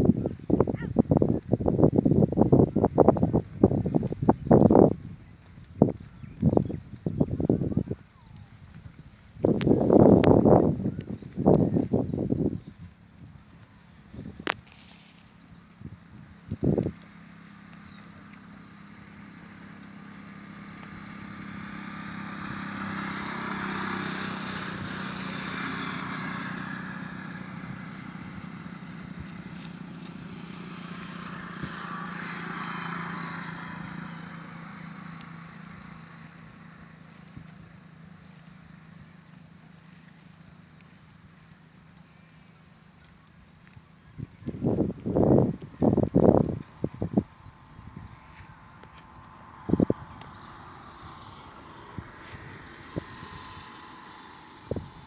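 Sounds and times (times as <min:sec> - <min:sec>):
road vehicles passing by: 0:00.0 - 0:55.0
steady low hum: 0:02.2 - 0:55.0.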